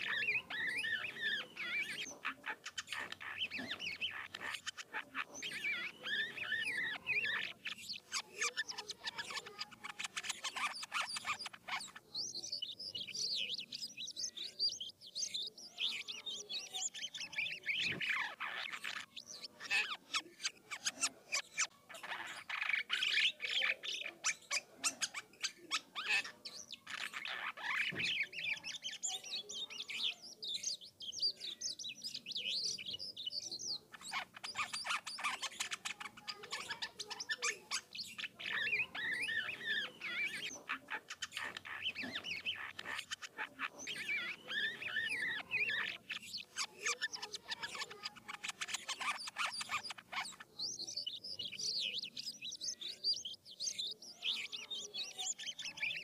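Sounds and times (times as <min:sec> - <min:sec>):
bird song with clicks and whistles: 0:00.0 - 0:56.0.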